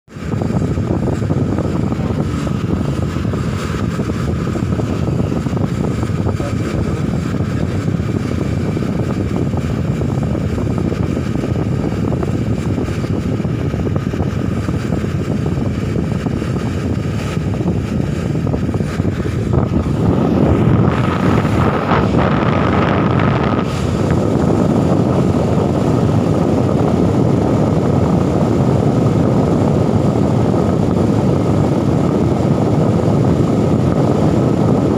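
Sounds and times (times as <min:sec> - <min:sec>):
diesel engine rumble: 0:00.1 - 0:34.9
thin steady whine: 0:00.1 - 0:34.9.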